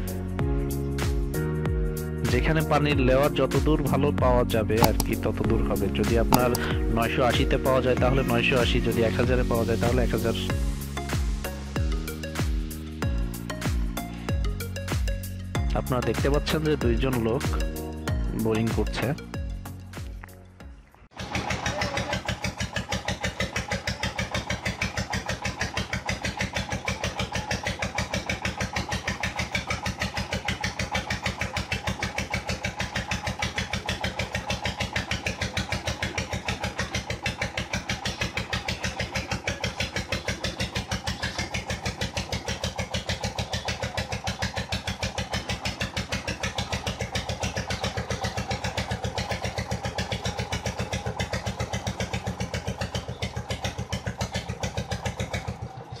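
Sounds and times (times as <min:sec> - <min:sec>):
boring rig engine chugging: 0:02.0 - 0:56.0.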